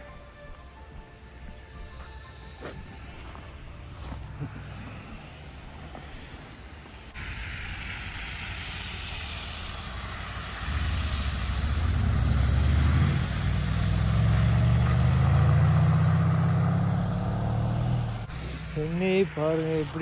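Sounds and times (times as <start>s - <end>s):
low engine rumble: 0.0s - 20.0s
tyres hissing through slush: 1.9s - 20.0s.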